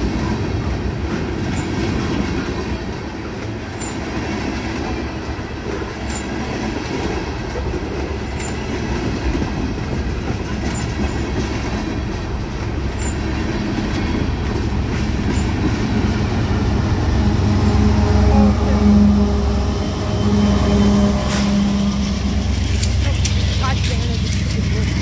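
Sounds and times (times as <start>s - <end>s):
steel wheels clattering on rails: 0.0s - 16.8s, 20.2s - 25.0s.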